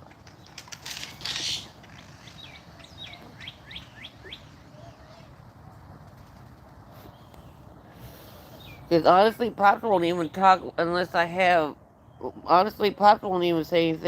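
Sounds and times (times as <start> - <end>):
bird chirping: 0.3 - 5.4, 6.9 - 13.0.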